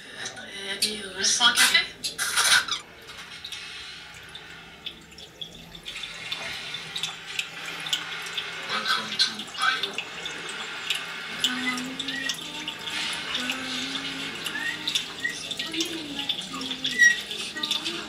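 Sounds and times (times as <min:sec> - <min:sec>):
water drips and clinks: 0:00.8 - 0:18.0
tap water running into sink: 0:01.5 - 0:18.0.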